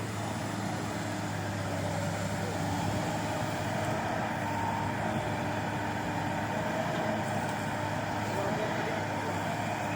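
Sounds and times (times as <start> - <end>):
excavator diesel engine running: 0.0 - 9.9.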